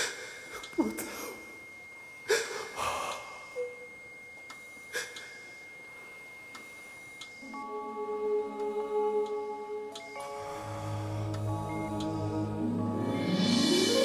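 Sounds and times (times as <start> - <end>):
faint high-pitched tone: 0.8 - 14.0.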